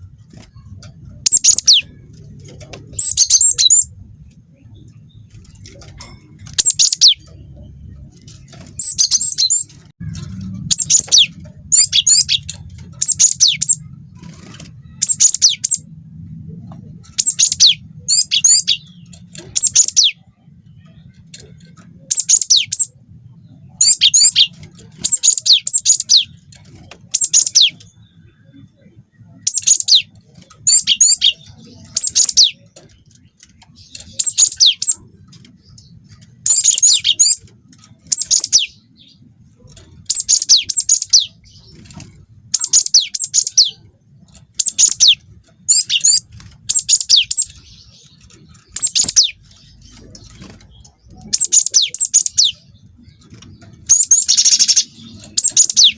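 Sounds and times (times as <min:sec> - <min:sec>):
faint low hum: 0:00.0 - 0:55.9
bird singing high-pitched notes: 0:00.3 - 0:02.2, 0:02.8 - 0:15.9, 0:16.9 - 0:55.9.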